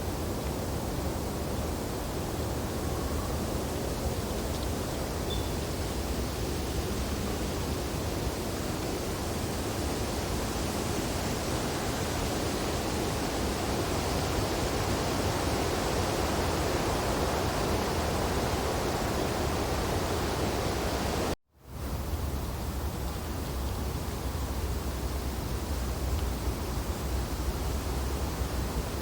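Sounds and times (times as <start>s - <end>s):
wind rushing through branches: 0.0s - 29.0s.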